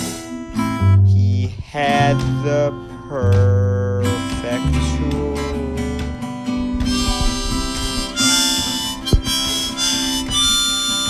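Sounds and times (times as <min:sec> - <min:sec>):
harmonica playing held notes: 0:00.0 - 0:01.4, 0:02.4 - 0:11.0.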